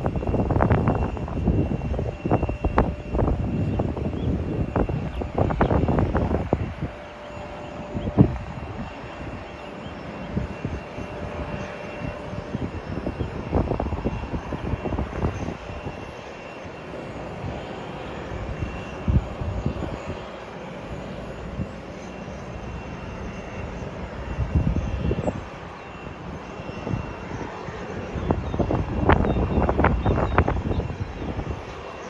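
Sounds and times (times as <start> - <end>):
airliner engines hissing: 0.0 - 32.0
wind rumbling on microphone: 0.0 - 32.0.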